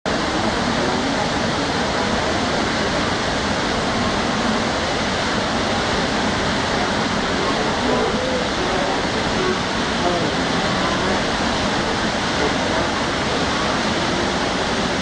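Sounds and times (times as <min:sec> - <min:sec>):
waterfall rushing over rocks: 0:00.1 - 0:15.0.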